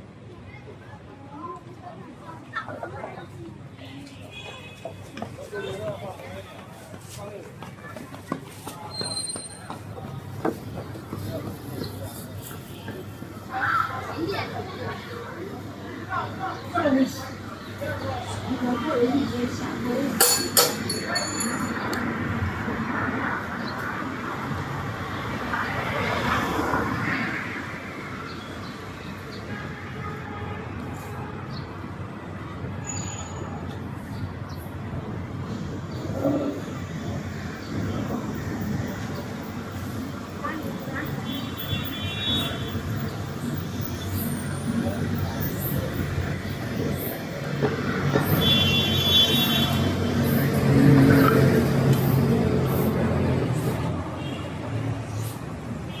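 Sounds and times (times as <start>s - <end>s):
traffic: 0.0s - 56.0s
vehicles passing: 0.0s - 56.0s.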